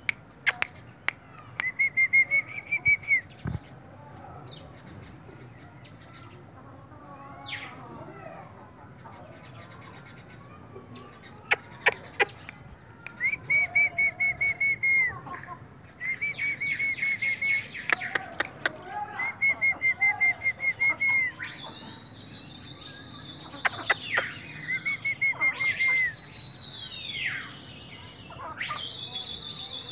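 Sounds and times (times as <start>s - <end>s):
birds trilling: 4.4s - 29.9s.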